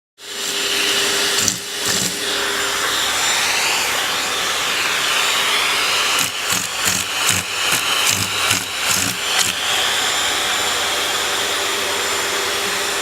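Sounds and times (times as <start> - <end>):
vacuum cleaner running: 0.2 - 13.0.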